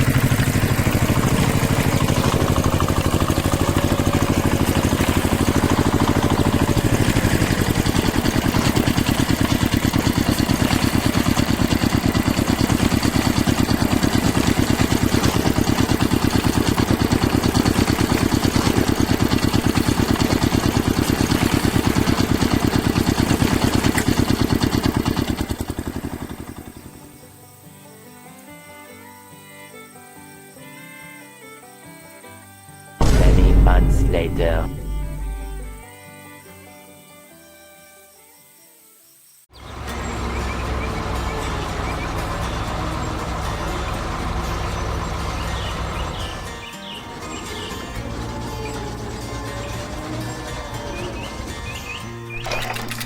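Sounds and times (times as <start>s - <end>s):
engine running: 0.0s - 27.4s, 33.0s - 35.8s, 39.5s - 53.0s.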